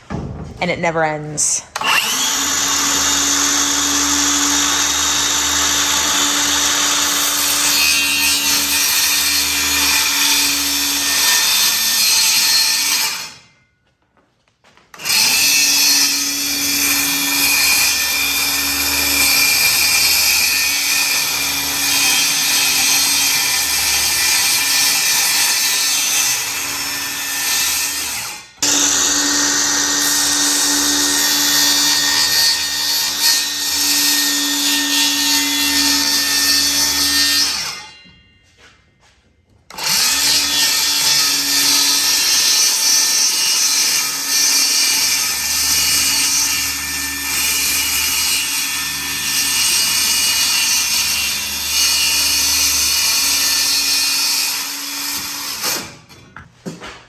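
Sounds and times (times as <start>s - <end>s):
power tool running under load: 1.8s - 13.4s, 15.0s - 37.9s, 39.7s - 56.0s.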